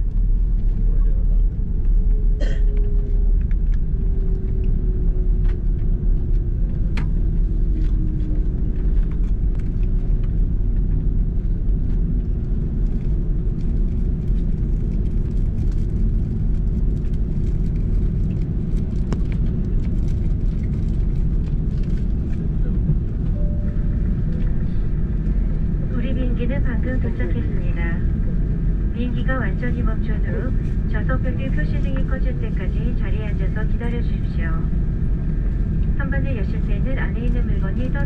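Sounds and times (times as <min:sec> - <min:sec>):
engine and wheels rumbling: 0:00.0 - 0:38.0
faint hum: 0:00.0 - 0:38.0.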